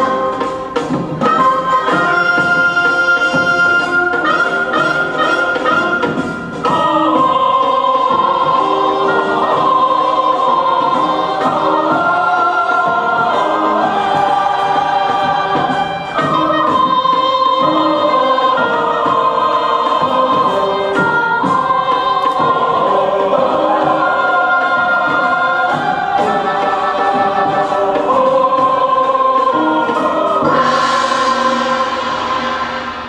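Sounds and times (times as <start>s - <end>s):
choral singing: 0.0s - 33.0s.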